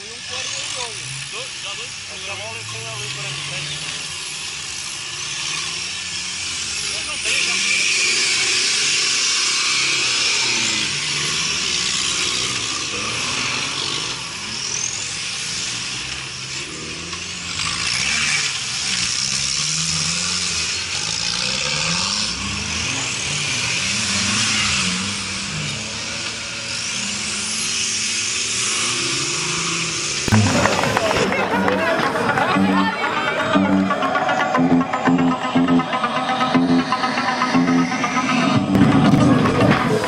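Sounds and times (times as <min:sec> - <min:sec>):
off-road engines revving: 0:00.0 - 0:40.0.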